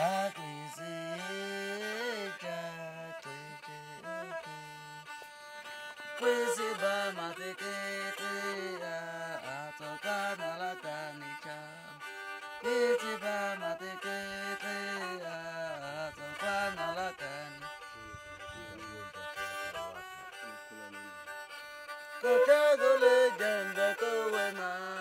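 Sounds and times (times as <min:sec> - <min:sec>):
bowed stick fiddle melody: 0:00.0 - 0:25.0.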